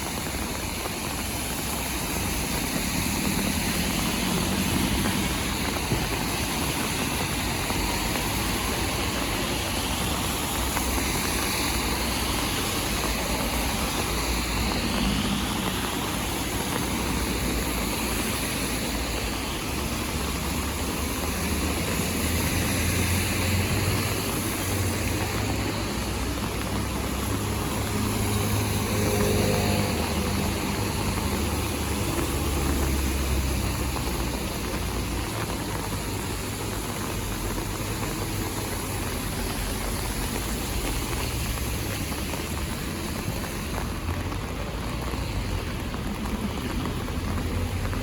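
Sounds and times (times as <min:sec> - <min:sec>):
heavy rain hissing: 0:00.0 - 0:48.0.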